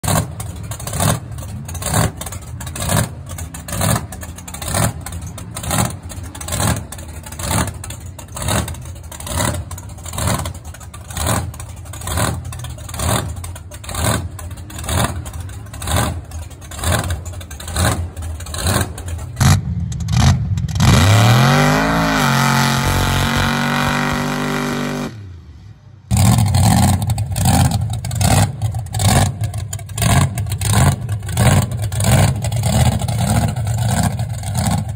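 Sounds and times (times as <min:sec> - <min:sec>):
truck engine revving hard: 0:00.0 - 0:34.9
truck engine surging rhythmically: 0:00.0 - 0:34.9.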